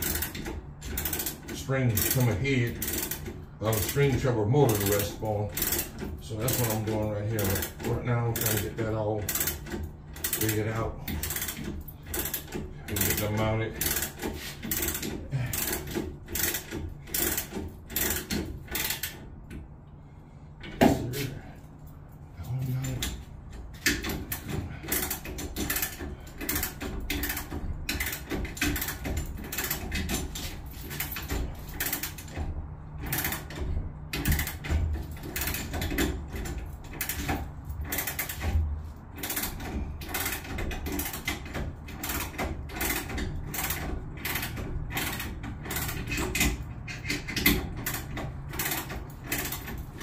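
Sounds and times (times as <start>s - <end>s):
hand ratchet clicking: 0.0s - 19.6s, 20.6s - 50.0s.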